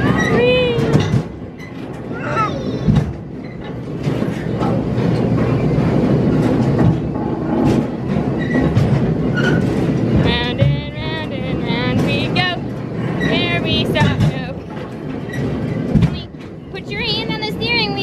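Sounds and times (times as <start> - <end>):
ride train rumble and clatter: 0.0 - 18.0.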